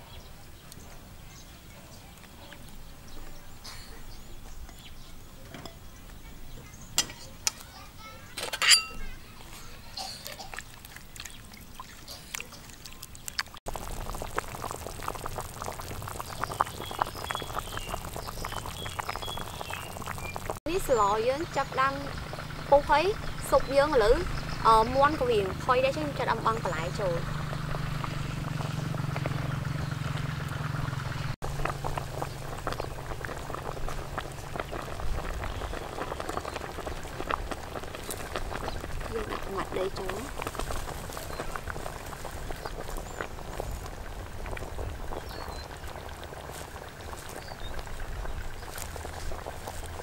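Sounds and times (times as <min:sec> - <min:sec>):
soup boiling and bubbling: 0:09.0 - 0:50.0.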